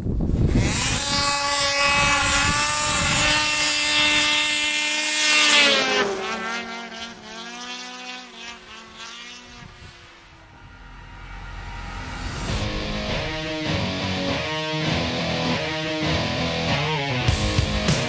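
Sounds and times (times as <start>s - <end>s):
snowmobile engine racing past: 0.4s - 16.3s
second quieter engine: 1.3s - 16.7s.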